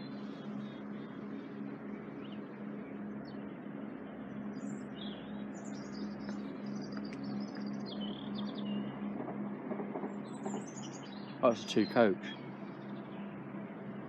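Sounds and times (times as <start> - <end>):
songbirds chirping and trilling: 0.0 - 14.0
steady low hum: 0.0 - 14.0.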